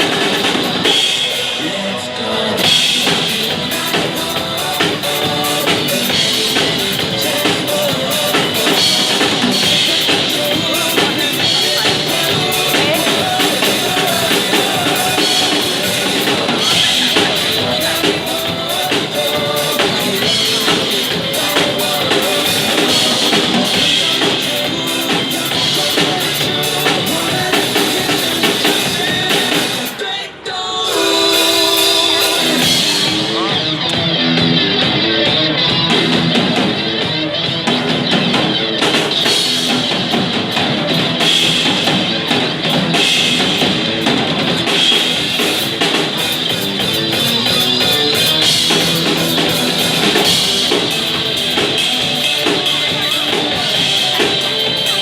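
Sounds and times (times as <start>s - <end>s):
drum kit beat: 0.0s - 1.8s, 2.6s - 30.1s, 30.8s - 55.0s
live band playing pop-rock: 0.0s - 55.0s.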